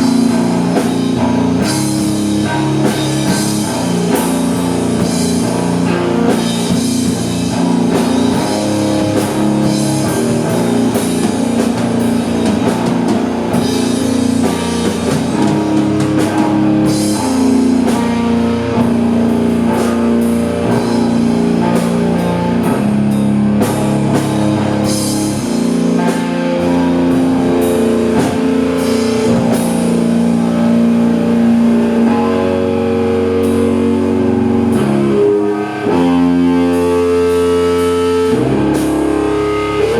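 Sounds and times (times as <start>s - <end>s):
drum kit: 0.0s - 39.9s
electric guitar chords: 0.0s - 39.9s.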